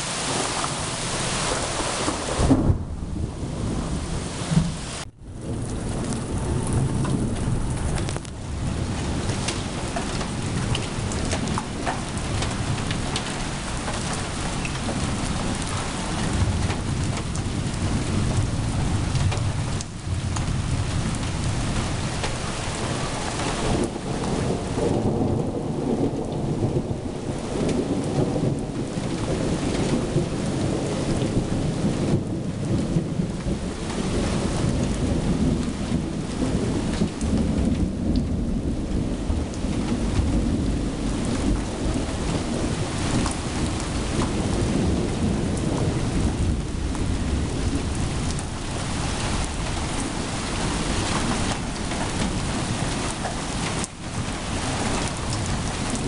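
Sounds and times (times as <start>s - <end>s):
steady rain hissing: 0.0s - 56.0s
thunder rumbling: 0.0s - 56.0s.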